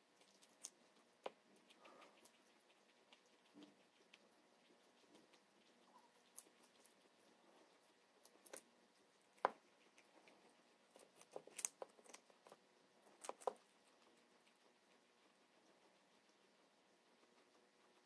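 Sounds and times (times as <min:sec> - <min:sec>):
guinea pigs chewing vegetables: 0:00.0 - 0:18.0.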